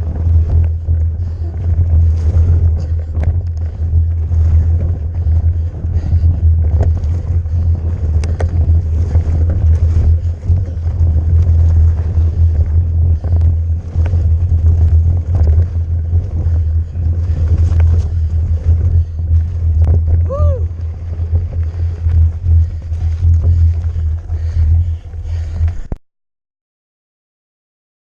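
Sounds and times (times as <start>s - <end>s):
mountain bike rattling: 0.0s - 26.0s
wind rumble on microphone: 0.0s - 26.0s.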